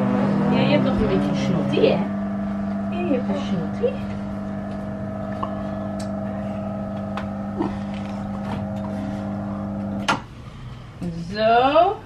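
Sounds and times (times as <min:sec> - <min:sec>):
hoist motor humming: 0:00.0 - 0:10.3.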